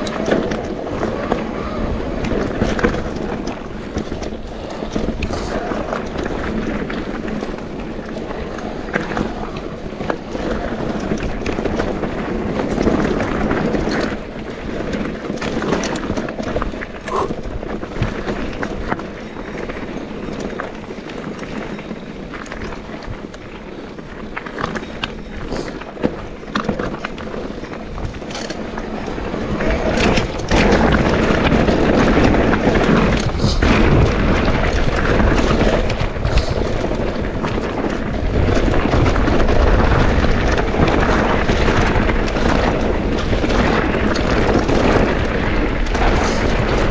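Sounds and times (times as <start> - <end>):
bike clattering over bumps: 0.0 - 46.9
bike tyres on dirt: 0.0 - 46.9.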